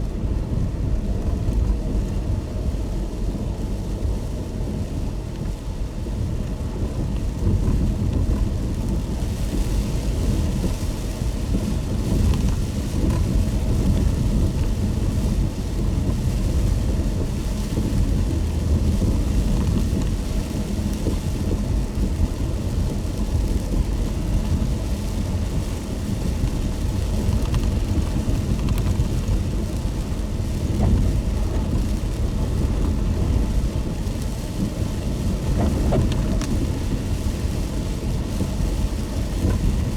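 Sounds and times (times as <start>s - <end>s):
car road and engine rumble: 0.0s - 39.9s
rain and wet tyres hiss: 0.0s - 39.9s.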